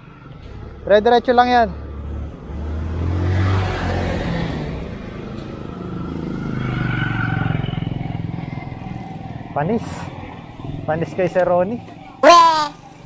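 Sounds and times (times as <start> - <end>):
vehicles passing on road: 0.0 - 13.0.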